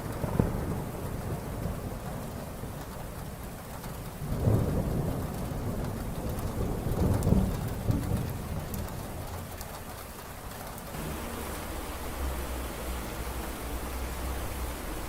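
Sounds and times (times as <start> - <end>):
heavy rain falling: 0.0 - 15.0
thunder rumbling: 0.0 - 15.0.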